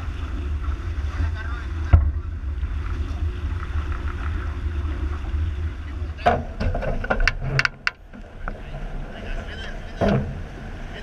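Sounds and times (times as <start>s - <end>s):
water rushing past hull: 0.0s - 11.0s
wind buffeting microphone: 0.0s - 11.0s.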